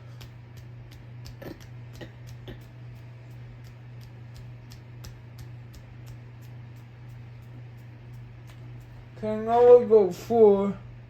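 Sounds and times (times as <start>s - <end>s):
light regular ticking: 0.0s - 9.1s
ceiling fan motor humming: 0.0s - 11.0s.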